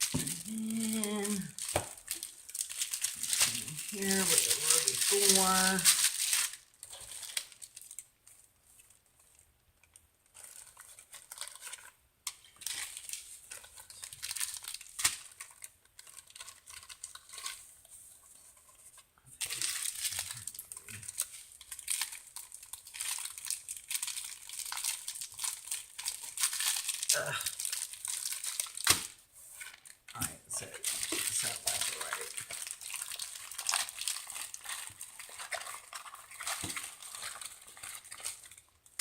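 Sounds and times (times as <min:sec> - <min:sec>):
packaging crinkling and rustling: 0:00.0 - 0:39.0.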